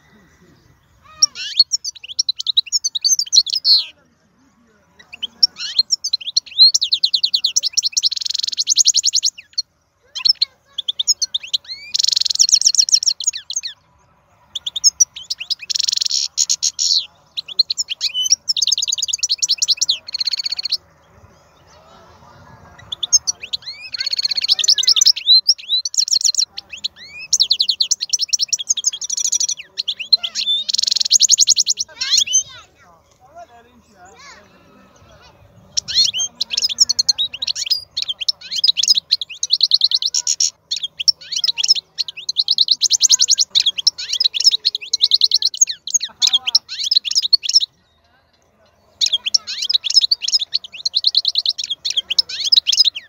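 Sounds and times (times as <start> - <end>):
finch singing high trills: 0.0 - 53.0.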